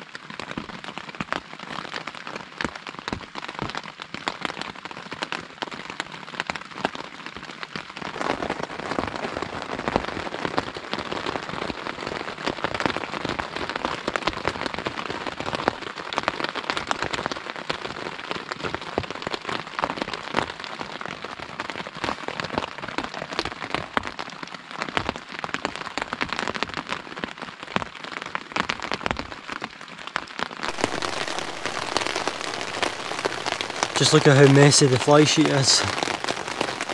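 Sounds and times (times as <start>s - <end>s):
rain pattering on tent fabric: 0.0s - 36.9s.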